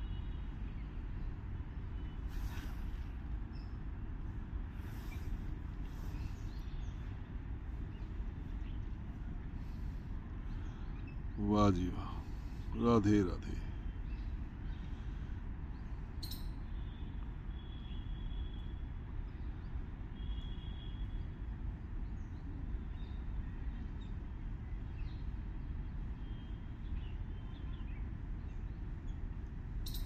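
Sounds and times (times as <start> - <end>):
low outdoor rumble: 0.0 - 30.0
small birds chirping: 0.1 - 30.0.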